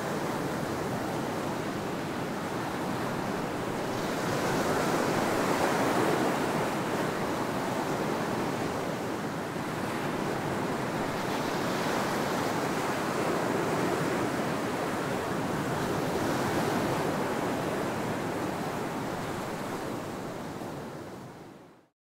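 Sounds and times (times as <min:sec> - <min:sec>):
surf washing up a beach: 0:00.0 - 0:21.8.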